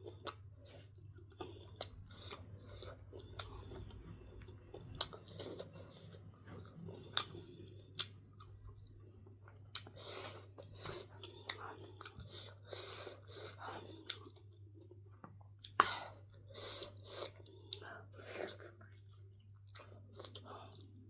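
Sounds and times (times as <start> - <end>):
person chewing food: 0.0 - 21.0
steady low hum: 0.0 - 21.0.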